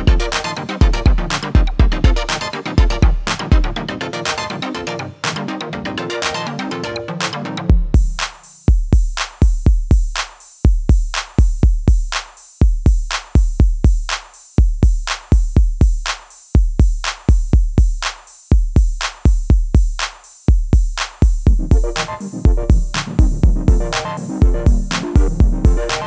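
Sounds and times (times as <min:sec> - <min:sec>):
drum machine beat: 0:00.0 - 0:05.6, 0:07.2 - 0:26.0.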